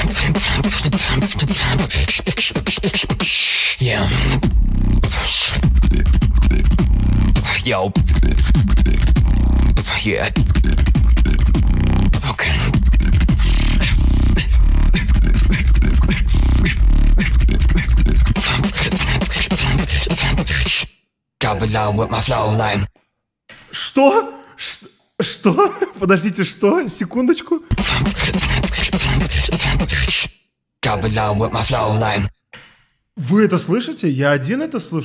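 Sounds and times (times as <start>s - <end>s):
beatboxing: 0.0s - 20.9s, 23.5s - 26.0s, 27.4s - 32.7s.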